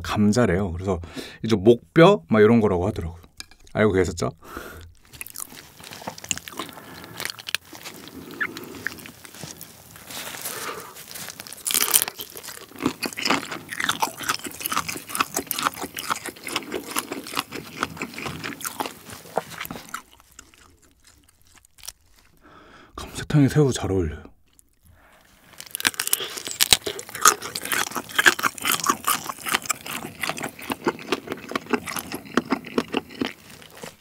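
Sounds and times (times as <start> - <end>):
person chewing crunchy shrimp: 4.6 - 22.6, 24.4 - 34.0.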